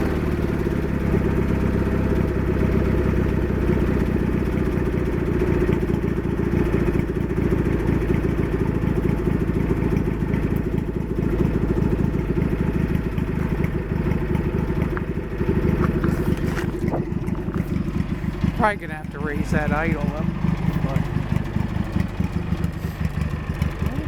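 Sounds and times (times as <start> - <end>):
garden tractor engine idling: 0.0 - 24.0.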